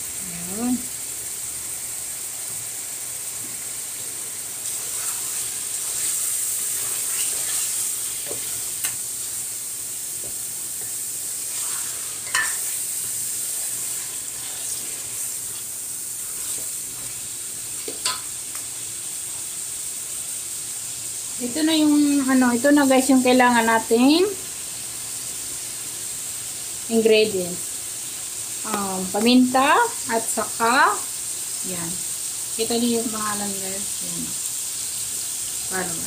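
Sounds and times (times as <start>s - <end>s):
chicken sizzling in pot: 0.0s - 36.0s.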